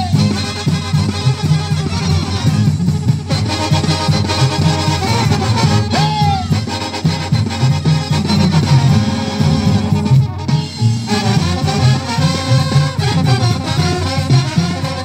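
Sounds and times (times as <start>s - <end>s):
bouncing tuba bass line: 0.0s - 15.0s
drums: 0.0s - 15.0s
trumpets and trombones: 0.0s - 15.0s.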